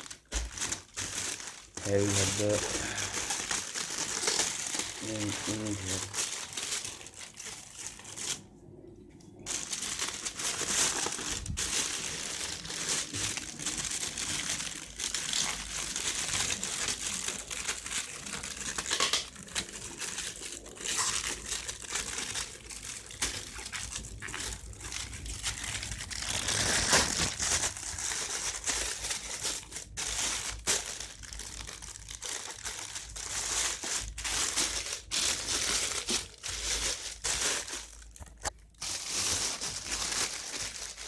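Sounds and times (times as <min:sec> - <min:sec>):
packaging crinkling and rustling: 0:00.0 - 0:08.6, 0:09.3 - 0:41.0.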